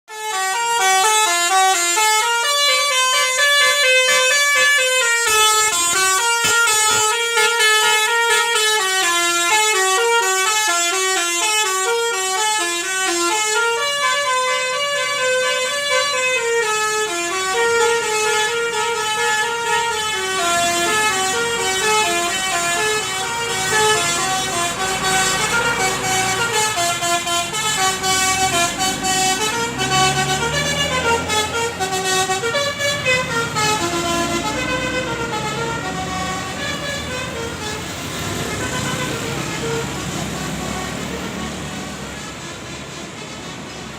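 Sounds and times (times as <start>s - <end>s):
multi-tone bus horn melody: 0.1s - 43.9s.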